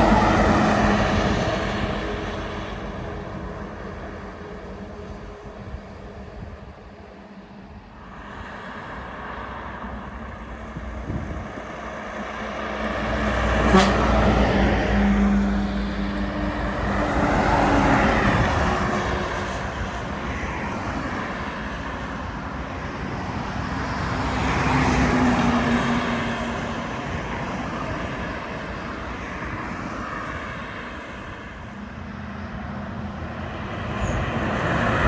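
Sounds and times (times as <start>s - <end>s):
heavy trucks driving past: 0.0s - 35.0s.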